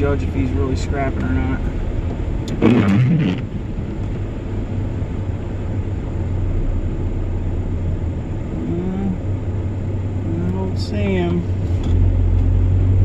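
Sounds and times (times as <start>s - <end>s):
road hum: 0.0s - 13.0s
vehicle engine: 0.0s - 13.0s.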